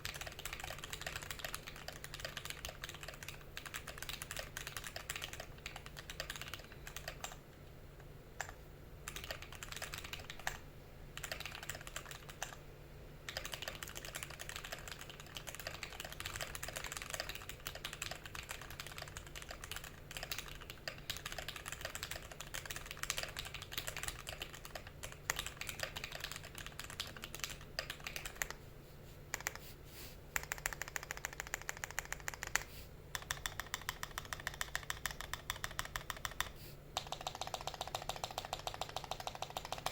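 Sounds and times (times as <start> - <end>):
typing on mechanical keyboard: 0.0 - 7.4, 8.4 - 10.6, 11.2 - 12.6, 13.2 - 28.6, 29.3 - 29.6, 30.4 - 39.9.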